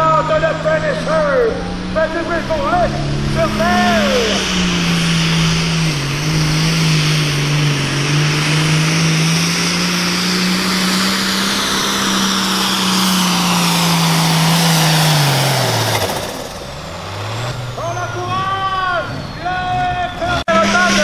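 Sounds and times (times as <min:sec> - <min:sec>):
tractor diesel engine at full throttle: 0:00.0 - 0:21.0.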